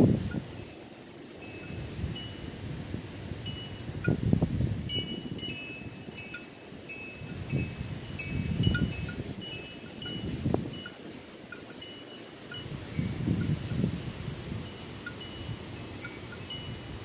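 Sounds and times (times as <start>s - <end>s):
wind gusts on microphone: 0.0s - 17.0s.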